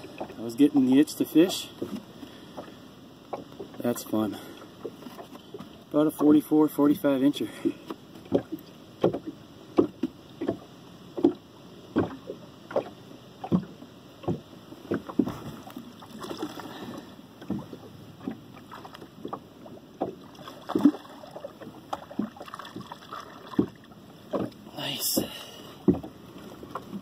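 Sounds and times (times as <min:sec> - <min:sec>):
waves slapping against boat hull: 0:00.0 - 0:27.0.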